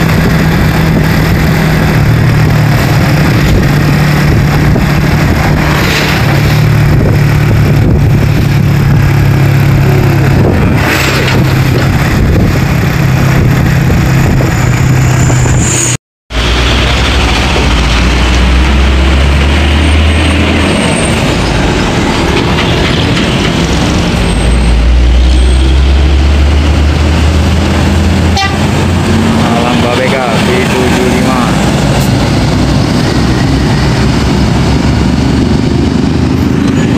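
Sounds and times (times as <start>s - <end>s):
coach engine drone: 0.0s - 15.5s, 16.3s - 36.9s
heavy diesel traffic passing: 0.0s - 36.9s
vehicle engine and road noise: 0.0s - 36.9s.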